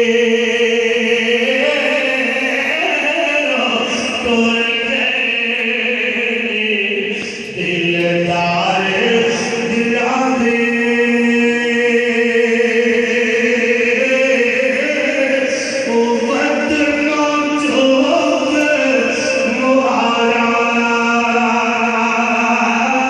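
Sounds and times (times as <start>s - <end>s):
voice chanting over loudspeakers: 0.0s - 23.0s.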